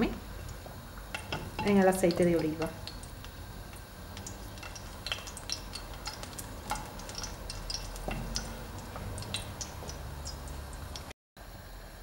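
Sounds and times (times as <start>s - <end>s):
garlic frying in oil: 0.0s - 11.1s.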